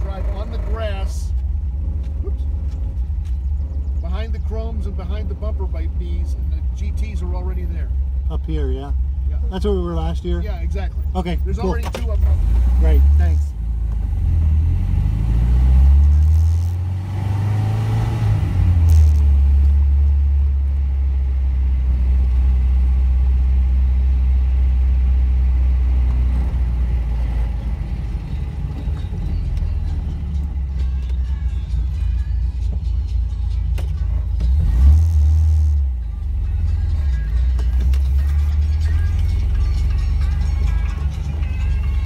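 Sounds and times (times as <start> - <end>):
car engine drone from inside: 0.0 - 42.0.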